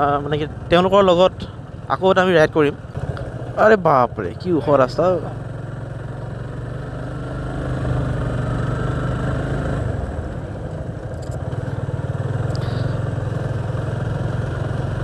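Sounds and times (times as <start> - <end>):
motorcycle engine pulling uphill: 0.0 - 15.0.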